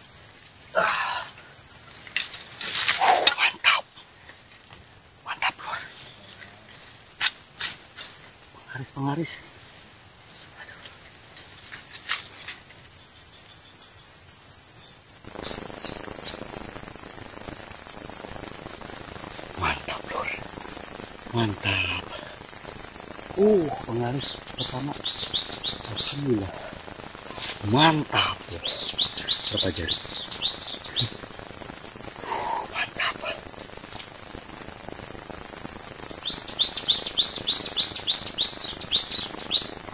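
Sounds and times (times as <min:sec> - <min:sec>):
insects shrilling: 0:00.0 - 0:39.9.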